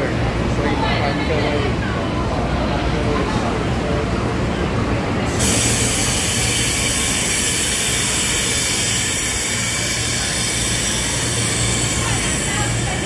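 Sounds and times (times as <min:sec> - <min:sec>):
train rolling with low rumble: 0:00.0 - 0:13.0.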